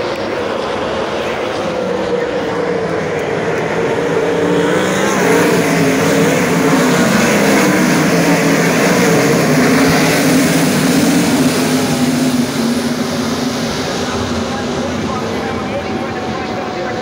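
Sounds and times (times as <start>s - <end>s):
racing car engines on dirt track: 0.0s - 17.0s.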